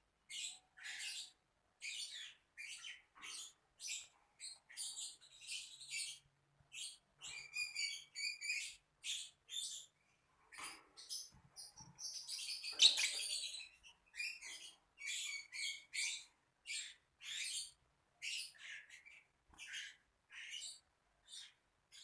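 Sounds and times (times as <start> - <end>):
lovebird chirping: 0.3 - 9.9, 10.5 - 22.0.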